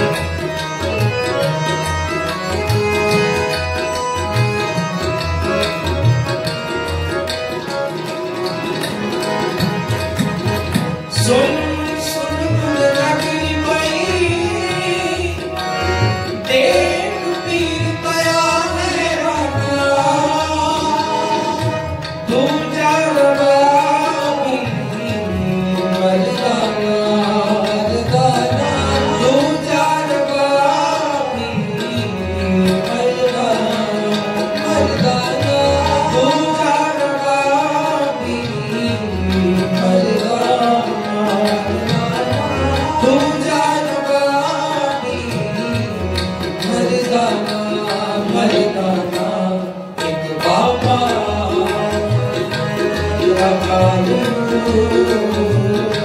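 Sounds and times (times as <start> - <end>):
harmonium: 0.0 - 56.0
tabla rhythm: 0.0 - 56.0
men singing devotional song: 11.1 - 56.0.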